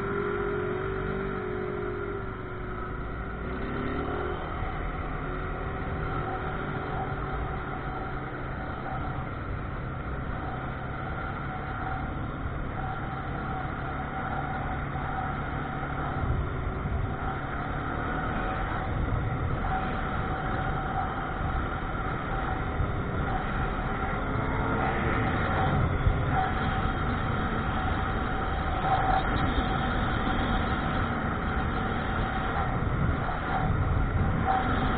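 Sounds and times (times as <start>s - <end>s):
faint steady whine: 0.0s - 34.9s
vehicle engine drone: 0.0s - 34.9s.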